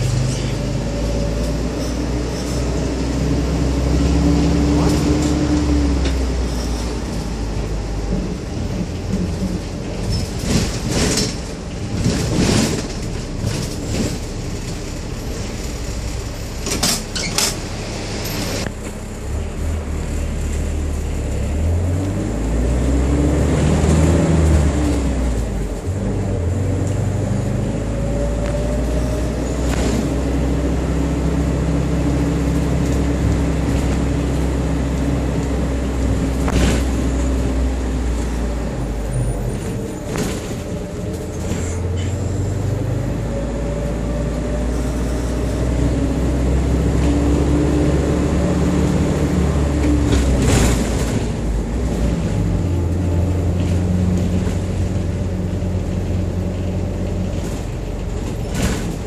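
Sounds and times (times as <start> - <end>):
minibus engine drone: 0.0 - 59.0.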